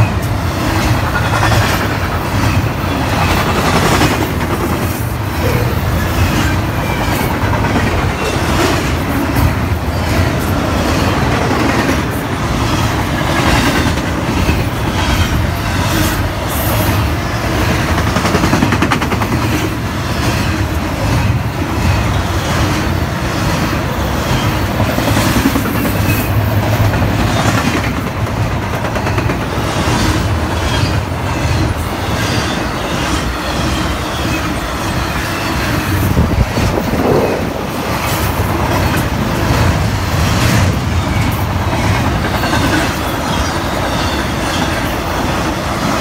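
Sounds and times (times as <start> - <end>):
train wheels rushing on rails: 0.0 - 46.0.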